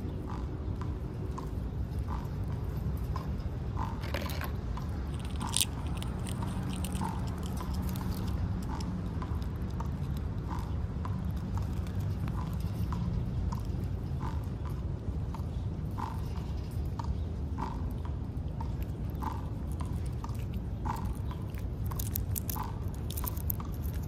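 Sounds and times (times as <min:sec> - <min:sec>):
steady low rumble: 0:00.0 - 0:24.0
squirrel chewing peanuts: 0:00.1 - 0:24.0.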